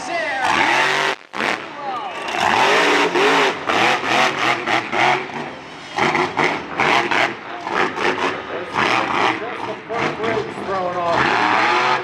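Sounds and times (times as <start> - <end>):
monster truck engine revving: 0.4 - 12.0.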